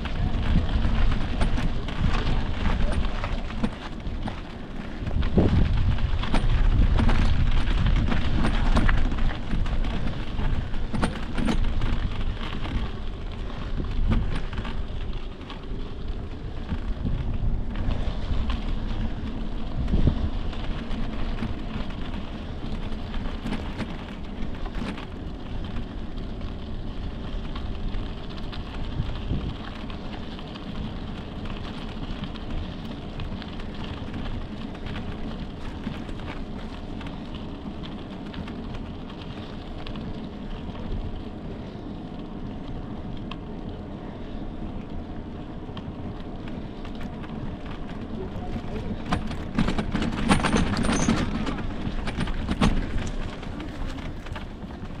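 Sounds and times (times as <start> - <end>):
bike knocks and rattles: 0.0 - 41.8, 45.0 - 55.0
tyres crunching over gravel: 0.0 - 55.0
wind buffeting microphone: 0.0 - 55.0.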